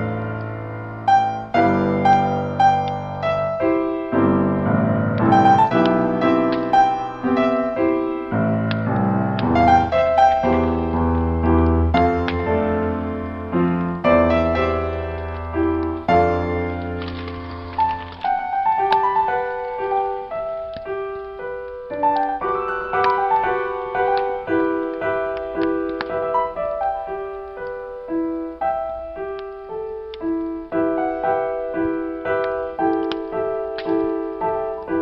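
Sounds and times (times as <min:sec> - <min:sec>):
slow calm piano melody: 0:00.0 - 0:35.0.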